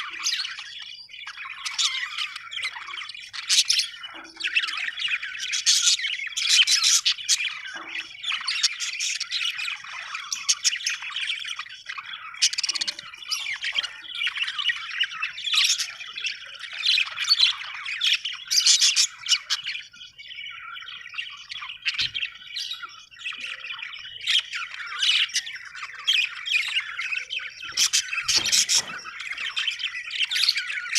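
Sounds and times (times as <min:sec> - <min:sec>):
budgerigars chattering and squawking: 0:00.0 - 0:30.9.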